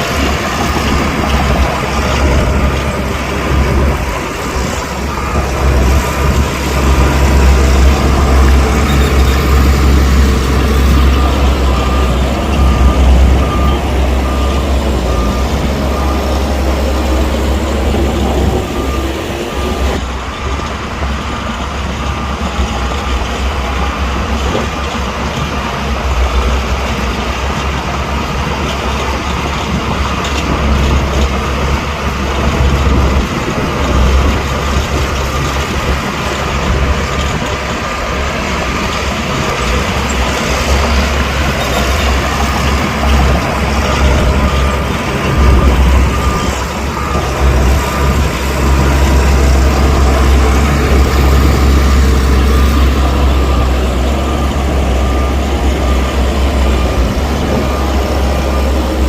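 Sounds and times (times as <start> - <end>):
heavy diesel machinery engine: 0.0 - 59.0
reversing alarm beeping: 0.0 - 59.0.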